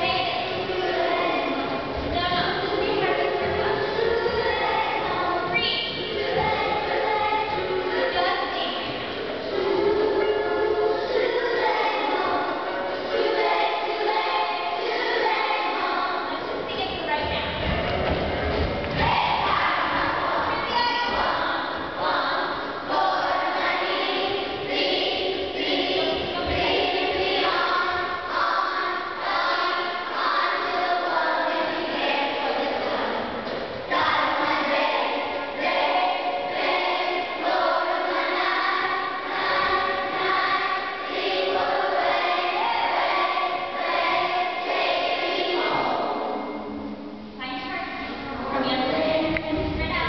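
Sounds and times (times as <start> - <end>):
children singing together: 0.0 - 17.1, 18.2 - 47.4.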